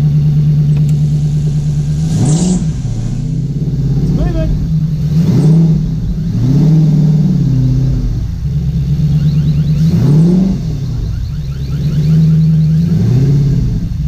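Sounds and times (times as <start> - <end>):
car engine running at low revs: 0.0 - 14.0
engine throttle blips: 0.0 - 14.0.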